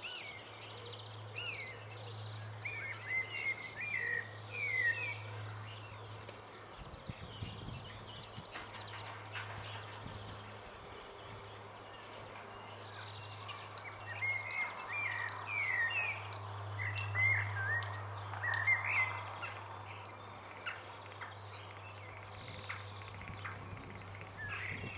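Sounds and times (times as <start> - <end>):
bird singing: 0.0 - 24.9.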